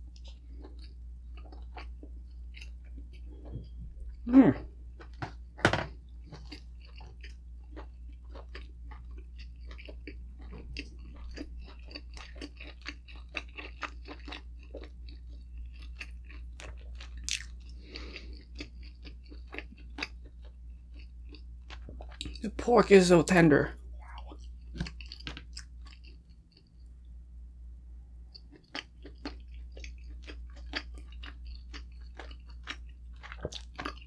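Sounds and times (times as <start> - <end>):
chewing: 0.0 - 5.4, 6.2 - 22.4, 24.0 - 26.9, 28.3 - 34.0.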